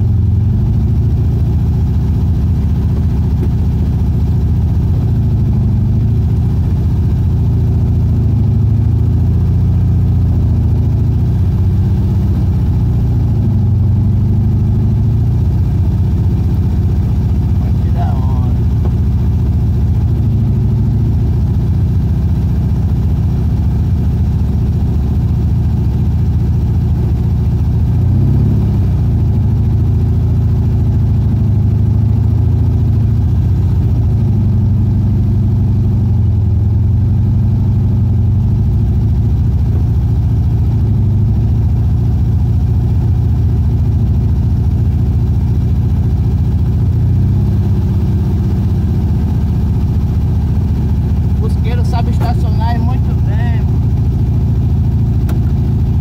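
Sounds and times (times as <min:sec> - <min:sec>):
car engine running from inside: 0:00.0 - 0:56.0.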